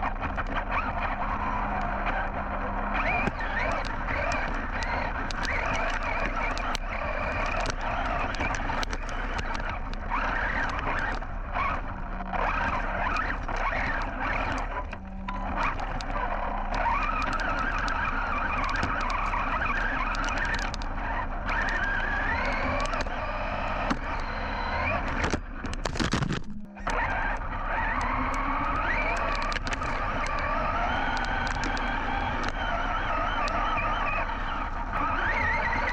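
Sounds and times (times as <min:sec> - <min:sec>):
electric motor whining: 0:00.0 - 0:35.9
tyres clicking on dirt and stones: 0:00.0 - 0:35.9.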